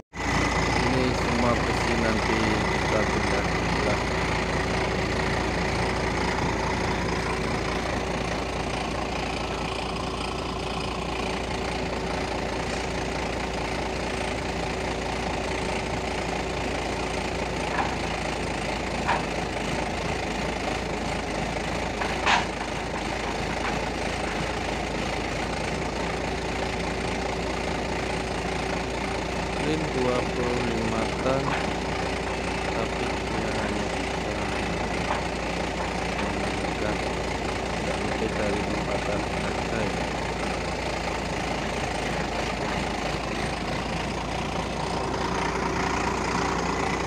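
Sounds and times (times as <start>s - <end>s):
diesel engine running with whine: 0.0s - 47.0s.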